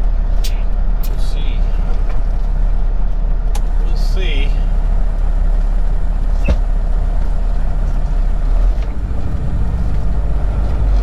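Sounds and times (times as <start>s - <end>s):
truck diesel engine and road noise: 0.0s - 11.0s.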